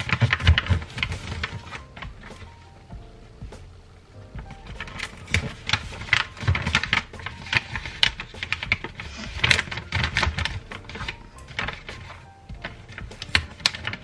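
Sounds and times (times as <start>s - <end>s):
wrapping paper crinkling: 0.0s - 2.8s, 4.4s - 14.0s.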